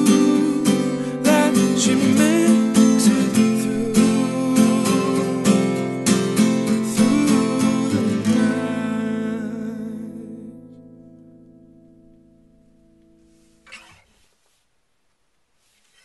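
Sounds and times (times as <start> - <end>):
guitar chord ringing: 0.0 - 13.9
acoustic guitar strumming: 0.0 - 14.3.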